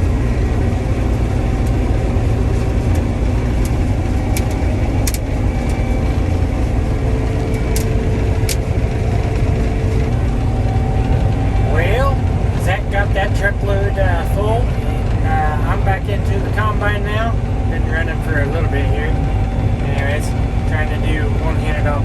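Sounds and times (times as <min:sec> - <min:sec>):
combine harvester rumbling: 0:00.0 - 0:22.0.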